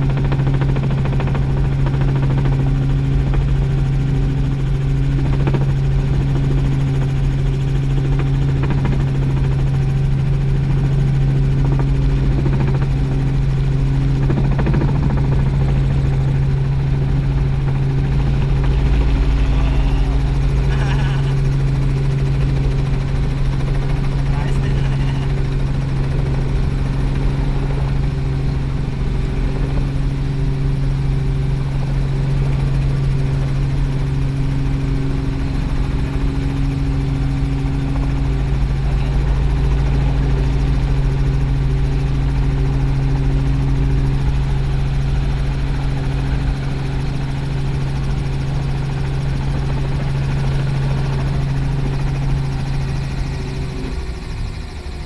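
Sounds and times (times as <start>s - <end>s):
helicopter rotor and engine hum: 0.0s - 55.0s.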